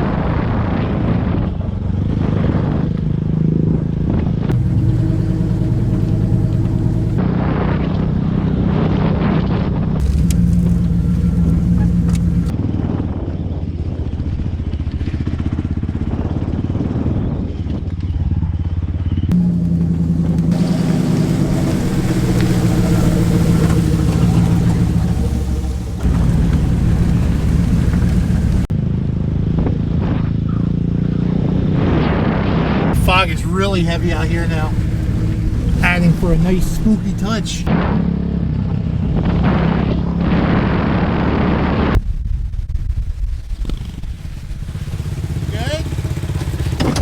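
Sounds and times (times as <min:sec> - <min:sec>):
off-road vehicle engine running: 0:01.1 - 0:08.5, 0:09.8 - 0:13.1, 0:14.1 - 0:31.6, 0:33.0 - 0:41.8, 0:43.5 - 0:47.0.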